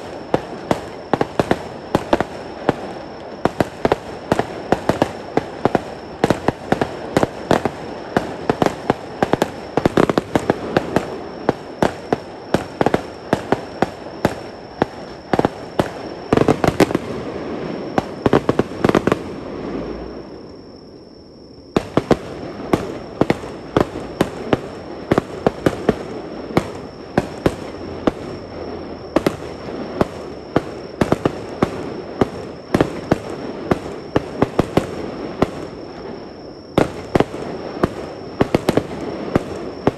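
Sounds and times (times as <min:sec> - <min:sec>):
fireworks bangs and crackles: 0:00.0 - 0:20.9, 0:21.6 - 0:39.9.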